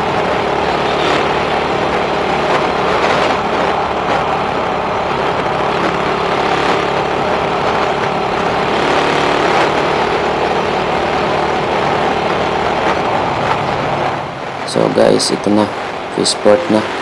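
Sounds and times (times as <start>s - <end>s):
motorcycle engine running: 0.0s - 17.0s
road noise: 0.0s - 17.0s
rushing wind: 0.0s - 17.0s.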